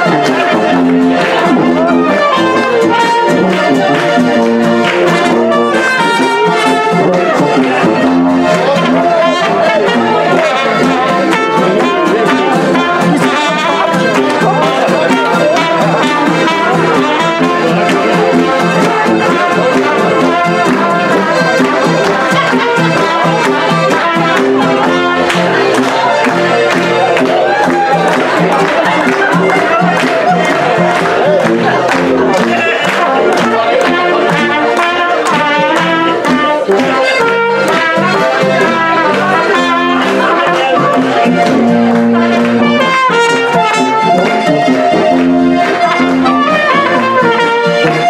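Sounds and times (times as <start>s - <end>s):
button accordions: 0.0s - 48.0s
people clapping along: 0.0s - 48.0s
trumpet: 0.0s - 48.0s
tuba: 0.0s - 48.0s.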